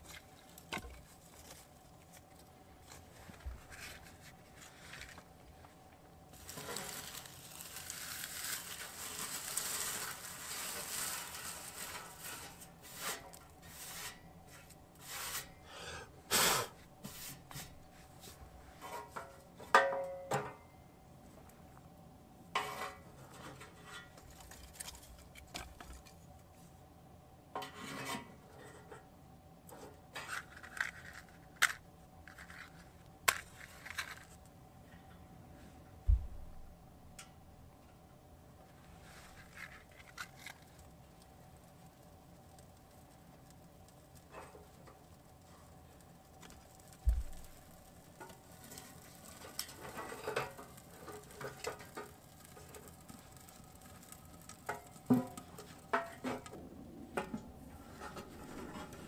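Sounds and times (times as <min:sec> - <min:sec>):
rustling and scraping: 0:00.0 - 0:15.6, 0:16.8 - 0:19.8, 0:22.5 - 0:26.8, 0:27.6 - 0:29.1, 0:29.7 - 0:36.5, 0:38.6 - 0:59.0.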